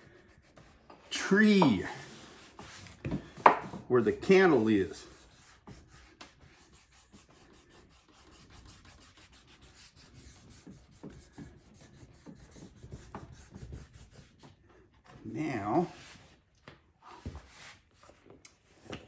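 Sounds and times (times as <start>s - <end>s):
rubbing and scuffing on wood: 0.0s - 19.0s.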